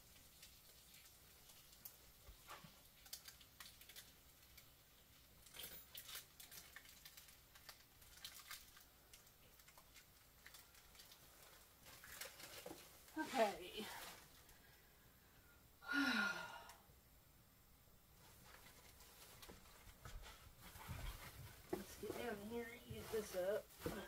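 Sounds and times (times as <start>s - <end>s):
plastic bag rustling: 0.0s - 14.8s, 18.2s - 24.0s.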